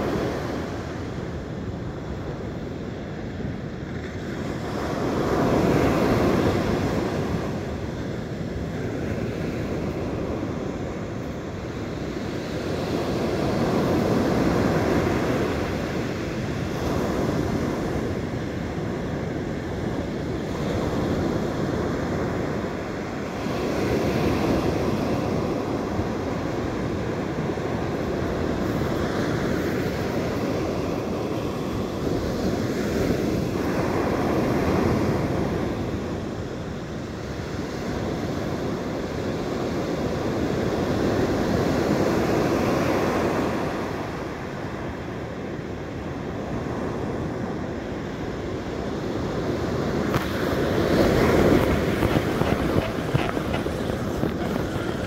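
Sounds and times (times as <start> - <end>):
surf breaking on a beach: 0.0 - 55.0
wind buffeting the microphone: 0.0 - 55.0.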